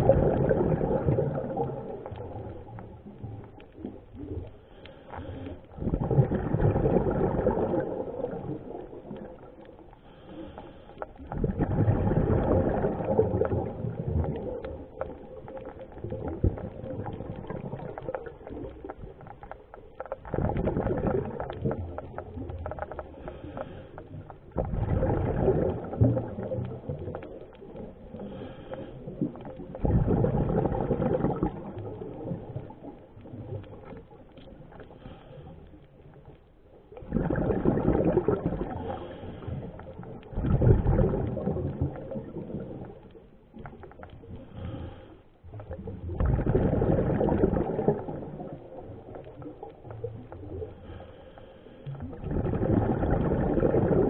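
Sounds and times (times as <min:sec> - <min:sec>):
rush of bubbles: 0:00.0 - 0:36.3, 0:36.9 - 0:51.2, 0:51.9 - 0:54.0.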